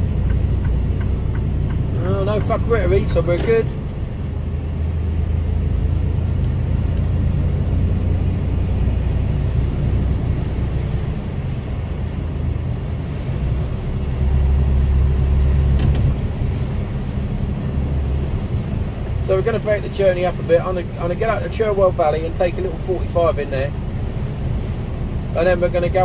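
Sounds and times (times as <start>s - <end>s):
lorry engine and road rumble: 0.0s - 26.0s
tyres hissing on wet road: 0.4s - 26.0s.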